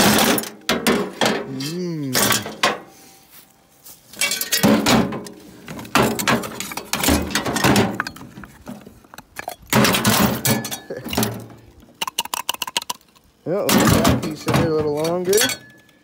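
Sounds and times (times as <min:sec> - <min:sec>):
scrap metal clanking and scraping: 0:00.0 - 0:03.3, 0:03.9 - 0:11.7, 0:13.6 - 0:16.0.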